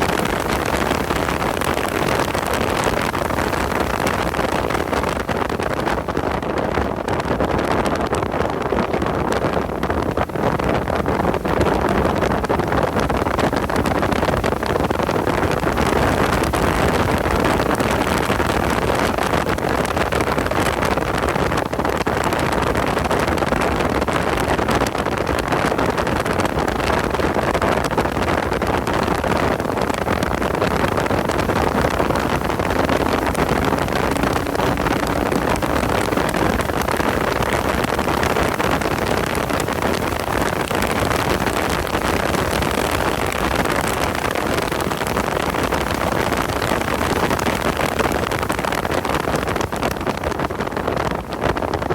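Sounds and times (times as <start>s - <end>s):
race car engine and wind noise: 0.0s - 51.9s.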